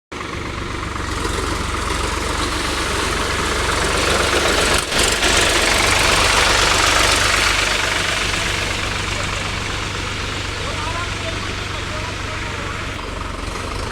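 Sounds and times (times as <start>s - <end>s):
tractor diesel engine running: 0.1s - 13.9s.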